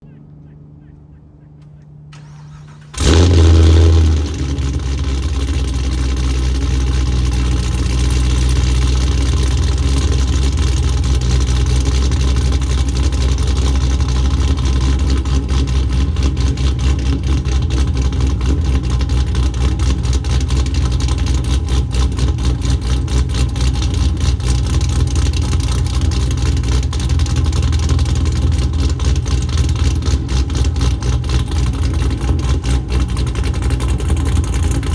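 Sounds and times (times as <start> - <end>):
car engine idling: 1.7 - 34.9
car engine revving: 2.1 - 34.9.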